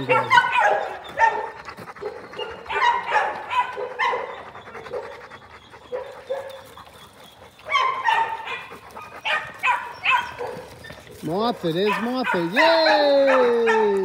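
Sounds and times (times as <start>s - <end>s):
dogs barking: 0.0s - 14.0s.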